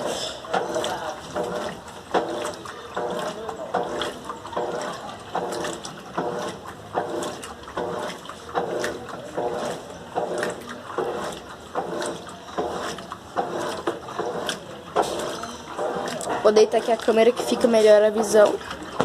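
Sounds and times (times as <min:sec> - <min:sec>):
washing machine motor hum: 0:00.0 - 0:19.0
water sloshing: 0:00.0 - 0:19.0.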